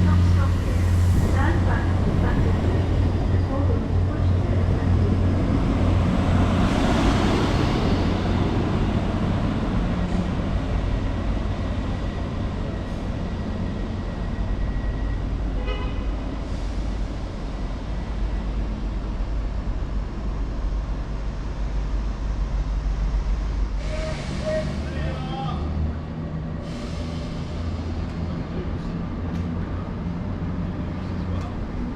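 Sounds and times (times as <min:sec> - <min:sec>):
train rumbling: 0:00.0 - 0:31.9.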